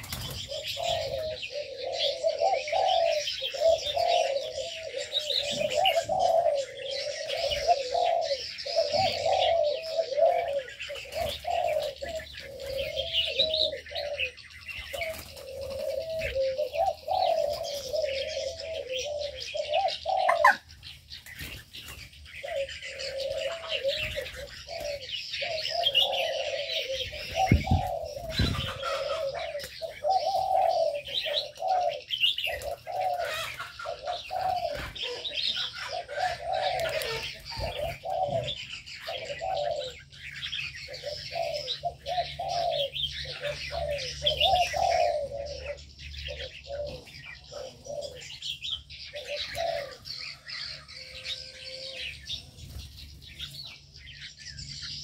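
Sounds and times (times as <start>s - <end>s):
doves cooing: 0.0s - 55.0s
small birds chirping: 0.0s - 55.0s.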